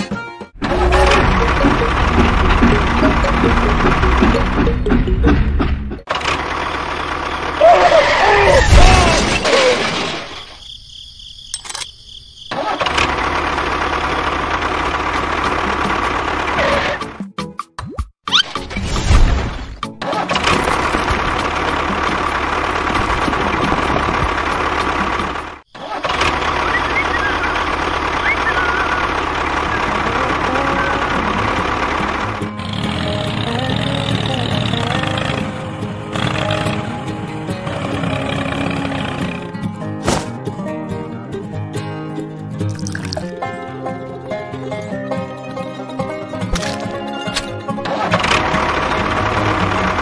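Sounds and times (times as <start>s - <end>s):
tractor engine rumbling: 0.6s - 10.4s, 12.5s - 17.2s, 20.1s - 40.4s, 42.6s - 50.0s.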